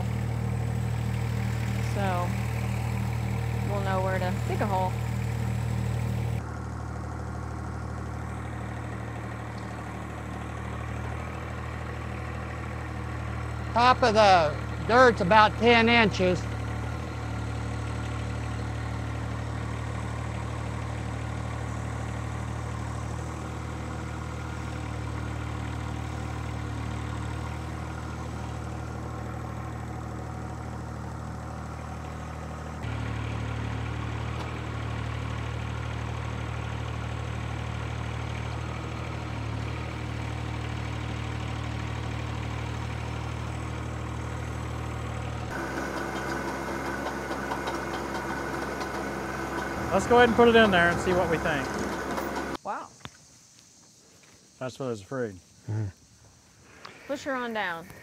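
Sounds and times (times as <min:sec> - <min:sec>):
tractor diesel engine running: 0:00.0 - 0:52.7.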